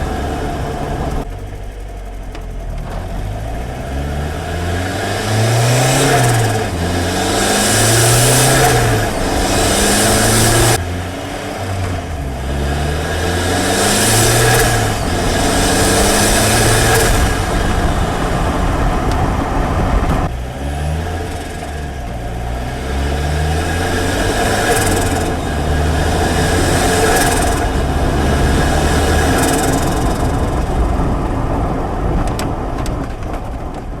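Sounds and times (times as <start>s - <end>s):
car engine while driving: 0.0s - 34.0s.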